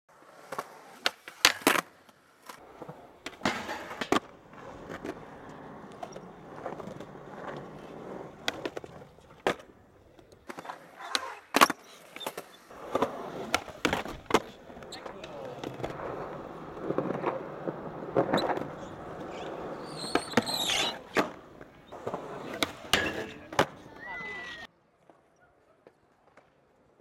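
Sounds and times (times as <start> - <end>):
skateboard wheels rumbling: 0.1 - 25.3
skateboard clacks: 0.4 - 25.2.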